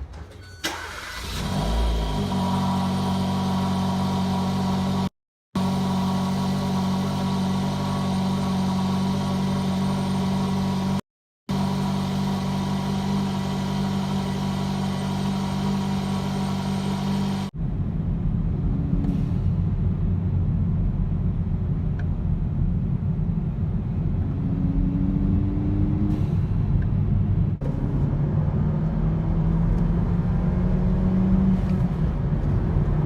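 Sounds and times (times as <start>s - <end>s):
rough low engine rumble: 2.4s - 29.8s.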